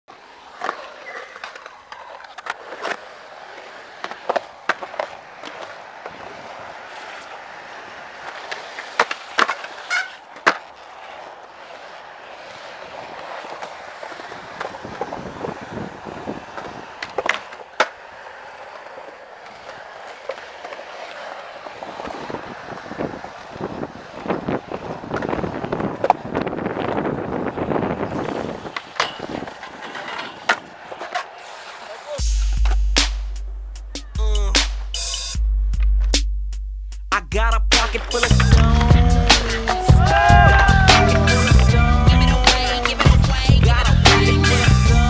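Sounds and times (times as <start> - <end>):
skateboard popping and landing clacks: 0.1 - 33.2, 37.7 - 45.0
skateboard wheels rolling on concrete: 0.1 - 45.0.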